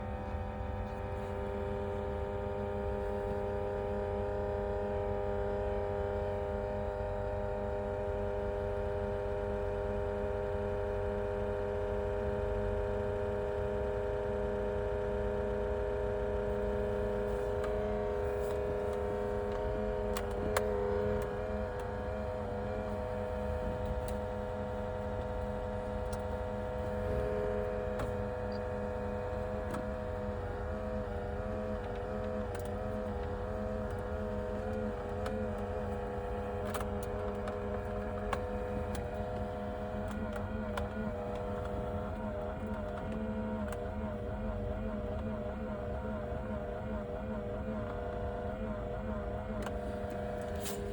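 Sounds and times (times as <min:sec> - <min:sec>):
car radio electronic whine: 0:00.0 - 0:50.9.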